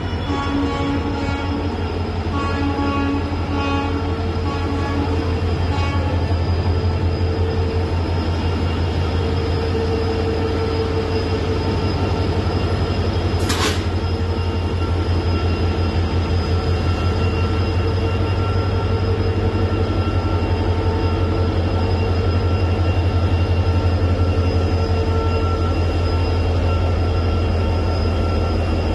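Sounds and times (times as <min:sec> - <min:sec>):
diesel locomotive engine running: 0:00.0 - 0:28.9.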